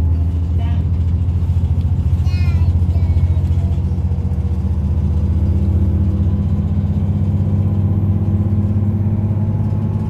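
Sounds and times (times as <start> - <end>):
motor vehicle engine droning: 0.0 - 10.0.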